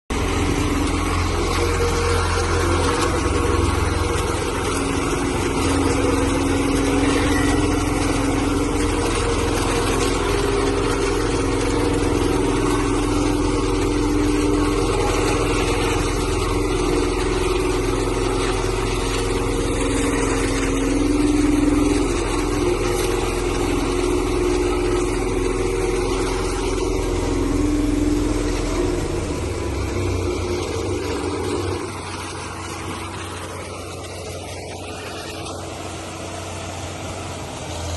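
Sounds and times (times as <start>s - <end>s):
engine droning: 0.1s - 37.9s.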